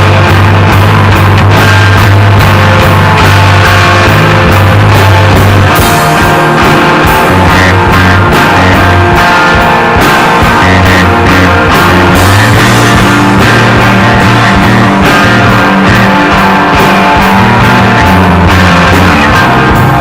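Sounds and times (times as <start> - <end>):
psychedelic rock band playing: 0.0 - 20.0
steady drum beat: 0.0 - 20.0
sustained low guitar notes: 0.0 - 20.0.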